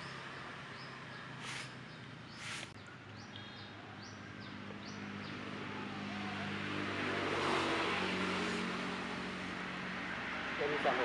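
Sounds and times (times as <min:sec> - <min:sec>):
vehicle engine hum approaching: 0:00.0 - 0:11.0.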